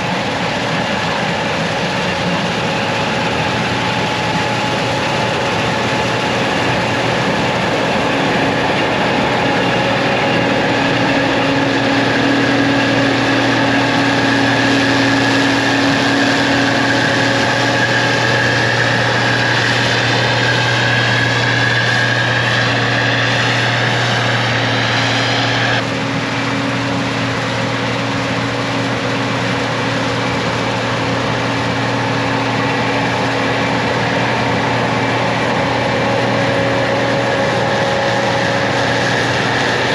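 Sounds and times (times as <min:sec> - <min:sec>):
combine engine and machinery drone: 0:00.0 - 0:39.9
high machine whine: 0:00.0 - 0:39.9.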